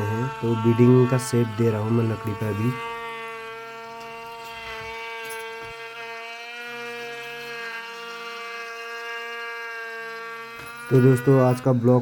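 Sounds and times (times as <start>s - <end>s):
power tool motor whining: 0.0s - 12.0s.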